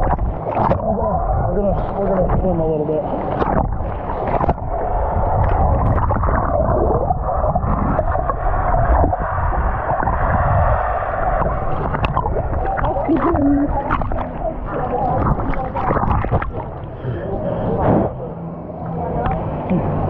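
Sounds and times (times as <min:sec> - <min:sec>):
muffled water gurgling and sloshing: 0:00.0 - 0:20.0.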